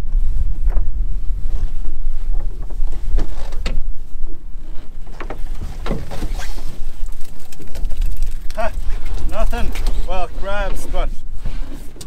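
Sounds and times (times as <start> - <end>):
wind rumbling on microphone: 0.0 - 12.0
rope knocks and scrapes: 0.6 - 12.0.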